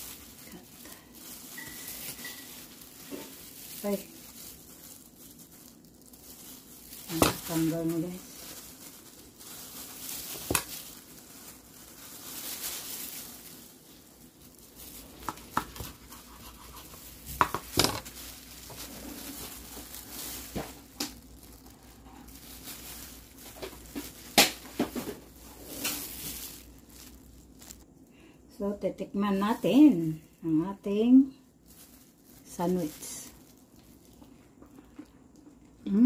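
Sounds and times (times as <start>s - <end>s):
plastic gloves crinkling: 0.0s - 36.0s.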